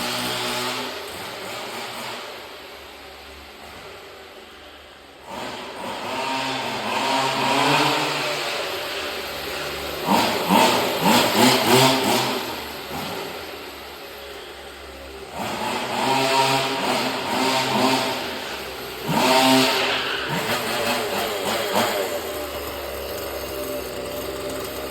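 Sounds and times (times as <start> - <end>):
small two-stroke engine revving: 0.0 - 24.9.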